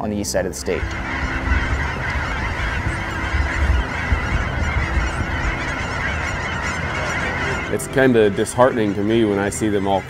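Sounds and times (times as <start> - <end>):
flock of geese cackling: 0.5 - 10.0.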